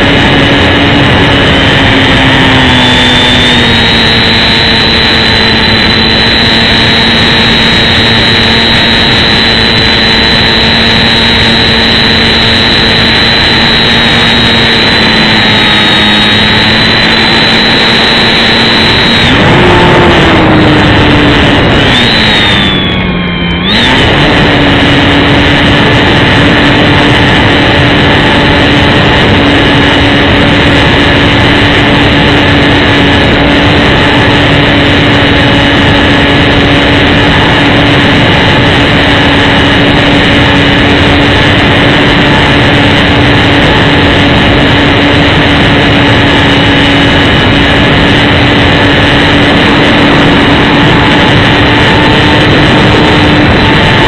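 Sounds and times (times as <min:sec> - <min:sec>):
electric motor whine: 0:00.0 - 0:54.0
rushing air: 0:00.0 - 0:54.0.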